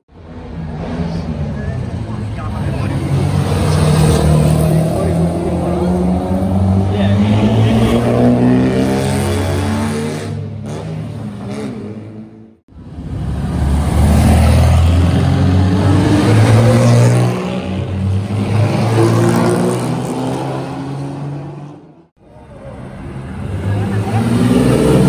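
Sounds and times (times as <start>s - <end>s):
car engines revving: 0.1s - 25.0s.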